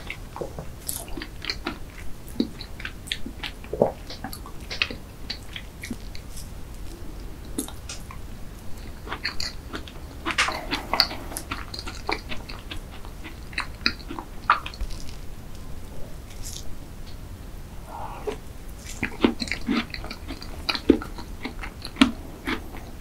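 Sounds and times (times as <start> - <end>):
small irregular mouth clicks: 0.0 - 17.2, 17.8 - 23.0
close chewing with wet mouth sounds: 0.0 - 23.0.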